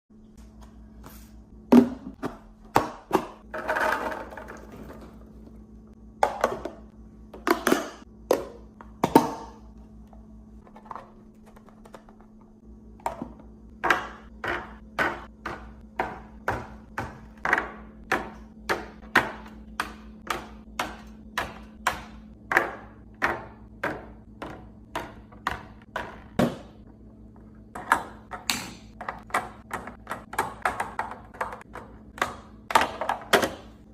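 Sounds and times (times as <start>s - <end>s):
steady low hum: 0.1s - 33.9s.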